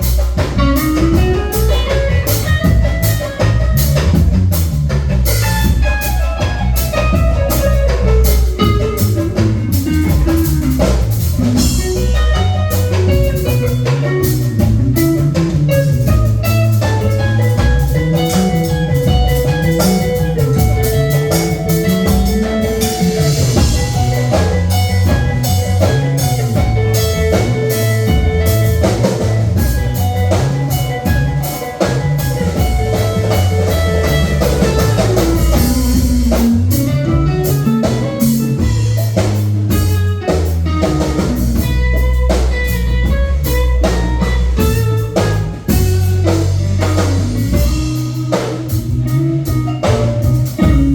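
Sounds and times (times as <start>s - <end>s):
drum kit beat: 0.0s - 50.9s
electric guitar lead: 0.0s - 50.9s
walking bass line: 0.0s - 50.9s.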